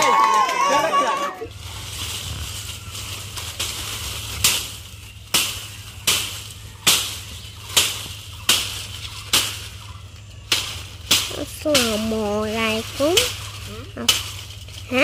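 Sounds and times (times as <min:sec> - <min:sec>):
low hum: 0:00.0 - 0:15.0
blade chopping dry branches: 0:01.5 - 0:15.0.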